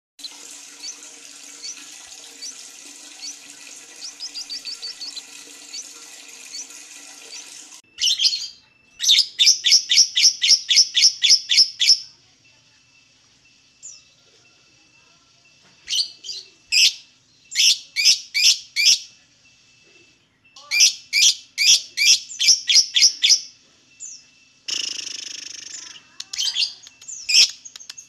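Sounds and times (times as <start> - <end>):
small bird chirps: 1.6 - 28.0.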